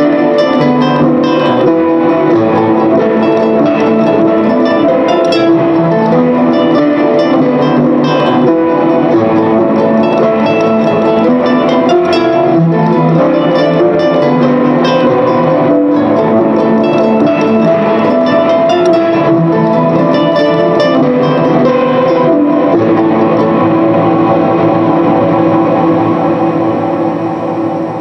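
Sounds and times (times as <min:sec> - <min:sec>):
solo guitar plucked notes: 0:00.0 - 0:28.0.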